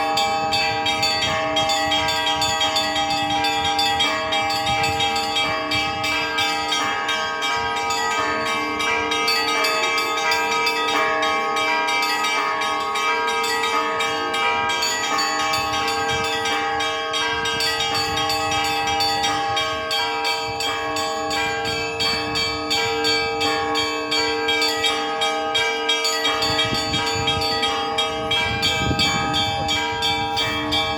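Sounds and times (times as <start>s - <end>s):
church bells pealing: 0.0s - 30.9s.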